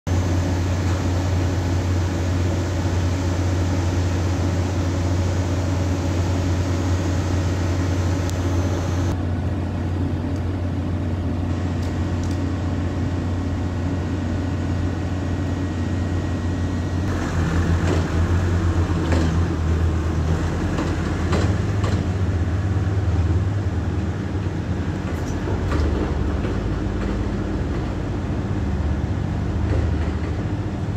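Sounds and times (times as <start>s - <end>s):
machinery droning: 0.1s - 30.9s.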